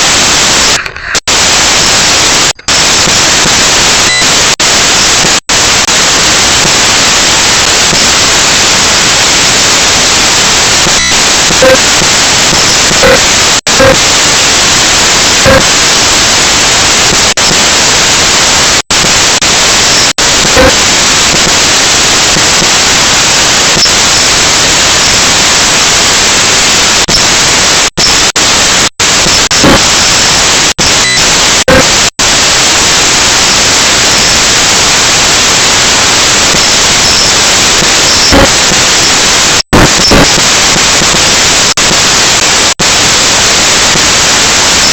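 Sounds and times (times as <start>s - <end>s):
loud static hiss: 0.0s - 44.9s.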